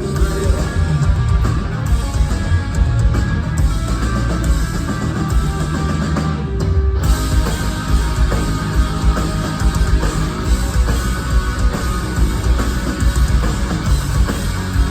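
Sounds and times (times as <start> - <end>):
heavy rock band playing live: 0.0 - 14.9.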